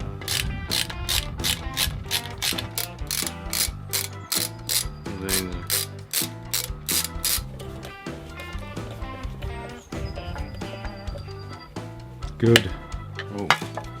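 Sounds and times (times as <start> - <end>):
background music with percussive beat: 0.0 - 14.0.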